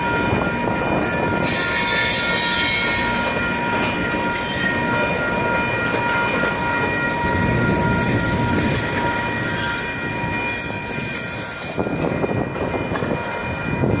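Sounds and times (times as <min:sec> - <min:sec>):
freight train cars rolling: 0:00.0 - 0:14.0.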